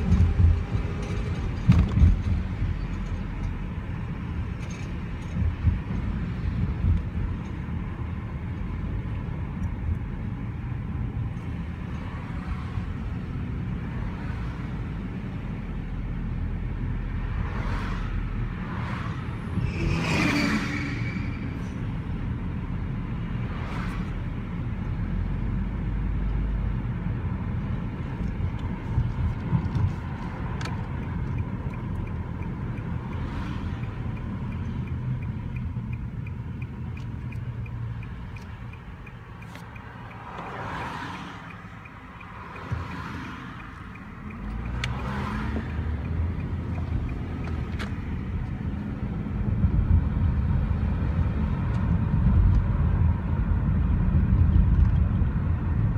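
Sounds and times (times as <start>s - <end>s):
car engine and road noise: 0.0s - 55.9s
vehicles passing whooshes: 0.0s - 55.9s.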